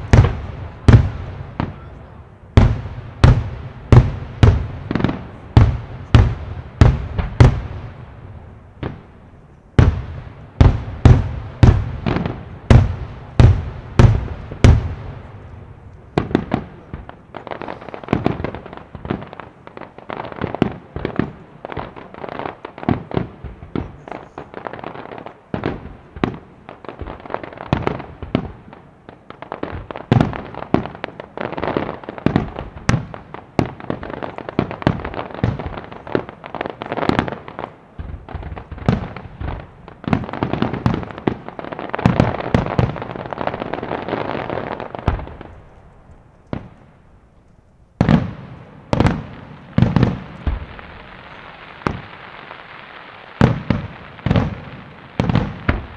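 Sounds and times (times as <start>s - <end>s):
firework crackling: 0.0s - 55.9s.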